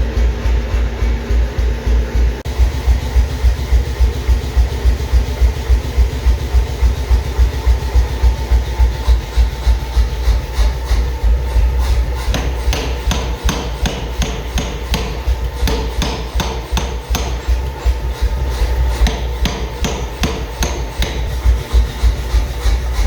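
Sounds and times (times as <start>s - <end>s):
continuous low hum: 0.0s - 23.0s
hammer striking metal: 0.0s - 23.0s.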